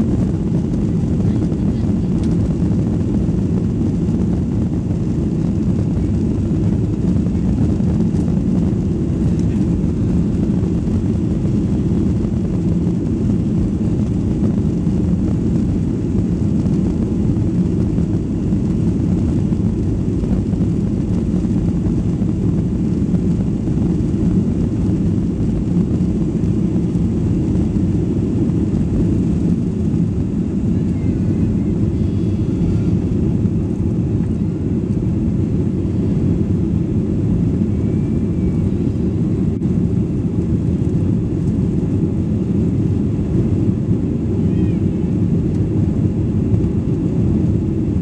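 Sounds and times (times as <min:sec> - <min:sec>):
jet engines roaring in cabin: 0:00.0 - 0:48.0.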